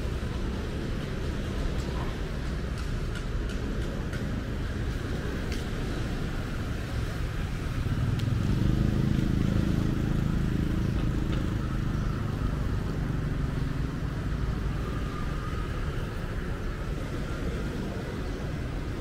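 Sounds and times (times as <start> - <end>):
passing vehicle engines: 0.0 - 19.0.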